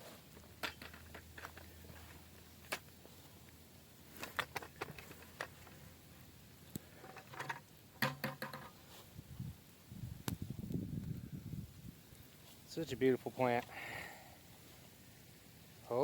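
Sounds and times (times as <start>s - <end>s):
light clicks and knocks in soil: 0.0s - 7.8s, 8.4s - 16.0s
low rustling of plants: 0.0s - 16.0s.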